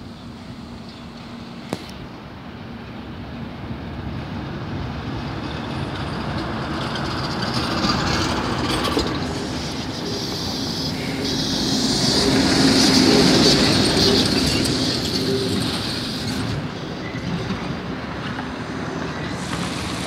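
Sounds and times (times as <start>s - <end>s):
street traffic: 0.0s - 20.0s
trolleybus approaching: 0.0s - 20.0s.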